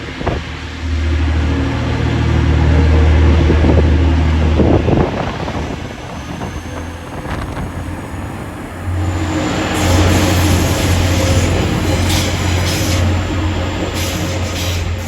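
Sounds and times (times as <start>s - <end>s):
train engine drone: 0.0s - 15.0s.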